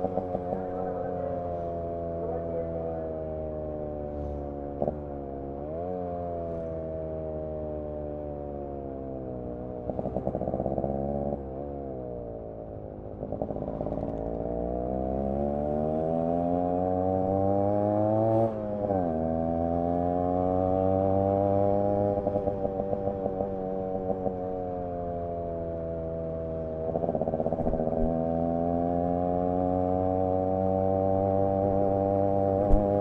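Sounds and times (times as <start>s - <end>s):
exhaust stuttering: 0.0s - 33.0s
motorcycle engine revving: 0.0s - 33.0s.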